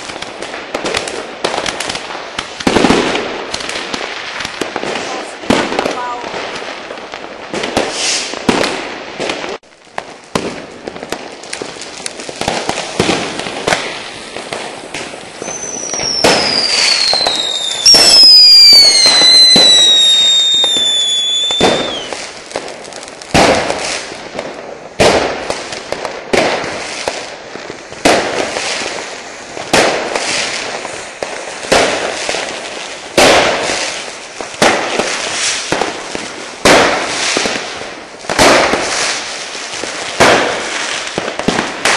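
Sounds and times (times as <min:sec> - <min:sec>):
fireworks bangs and crackling: 0:00.0 - 0:41.9
whistling fireworks: 0:00.0 - 0:41.9.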